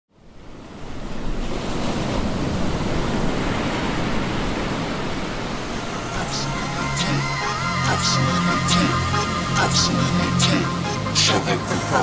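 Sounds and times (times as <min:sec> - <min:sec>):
ocean waves breaking: 0:00.2 - 0:12.0.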